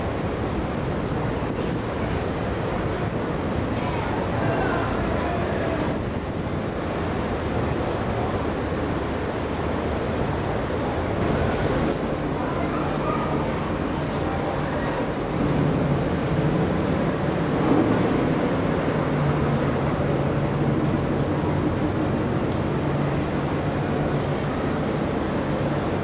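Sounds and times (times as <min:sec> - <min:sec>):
car engines at low revs: 0:00.0 - 0:26.0.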